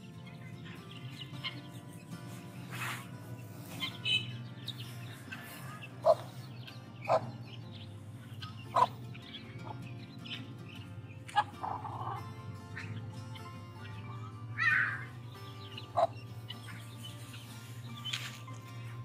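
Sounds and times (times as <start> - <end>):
chicks peeping: 0.2 - 19.0
hens clucking: 0.2 - 19.0.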